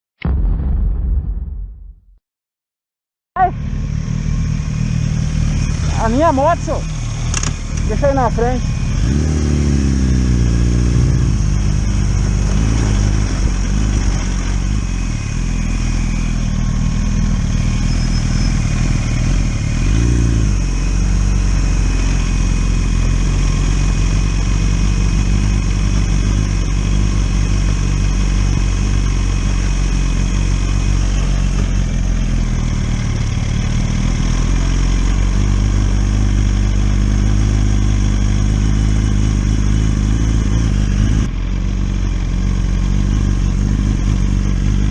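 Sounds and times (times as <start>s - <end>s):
motorcycle engine running: 3.4s - 44.9s.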